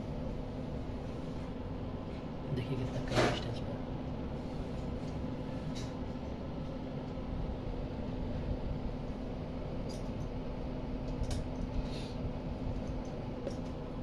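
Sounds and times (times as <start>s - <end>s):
fan heater running: 0.0s - 14.0s.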